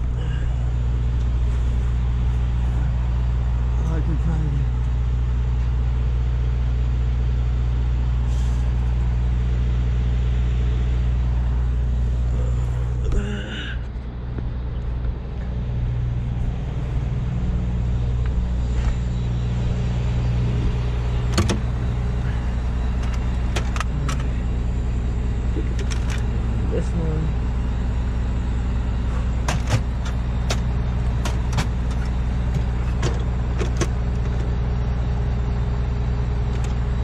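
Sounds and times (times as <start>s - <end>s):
diesel truck engine idling: 0.0s - 37.0s.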